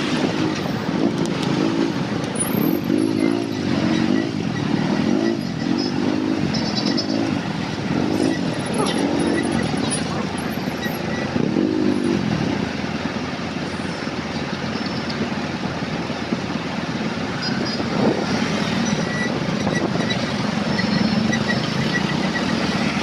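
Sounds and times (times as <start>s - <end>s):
road noise hiss: 0.0s - 23.0s
truck engine: 0.0s - 23.0s
vehicle engines in slow traffic: 0.0s - 23.0s.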